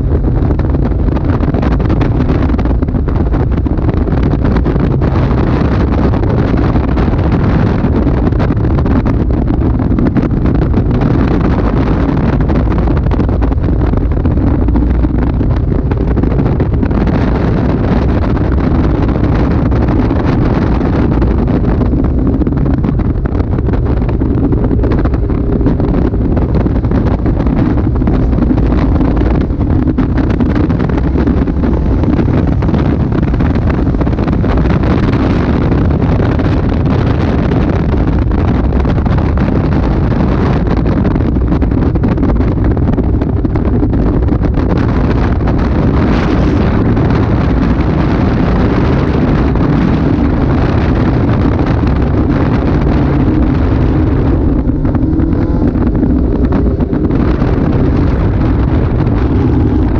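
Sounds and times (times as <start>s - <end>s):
car engine running hard: 0.0s - 59.9s
wind buffeting microphone: 0.0s - 59.9s.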